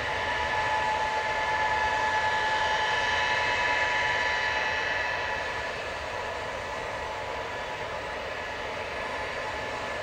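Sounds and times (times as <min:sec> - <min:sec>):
jet engines whining while taxiing: 0:00.0 - 0:10.0.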